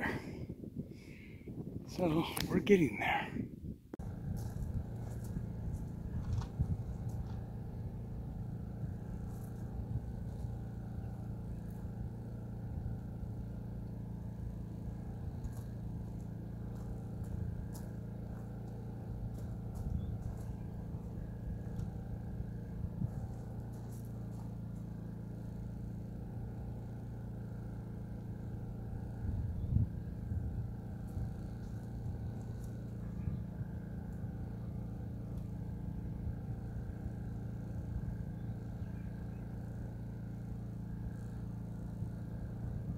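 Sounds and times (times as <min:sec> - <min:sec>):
engine humming steadily: 0:00.0 - 0:42.9.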